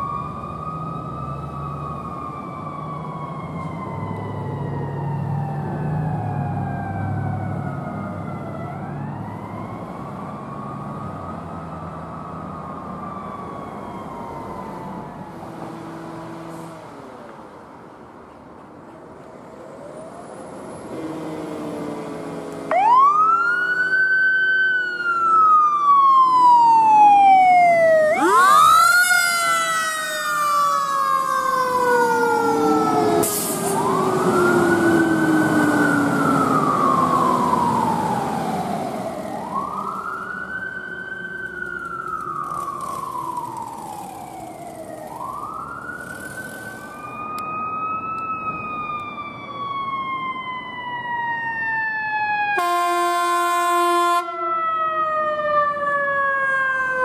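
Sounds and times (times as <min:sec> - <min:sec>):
vehicle engine noise: 0:00.0 - 0:51.8
emergency siren wailing: 0:00.0 - 0:57.0.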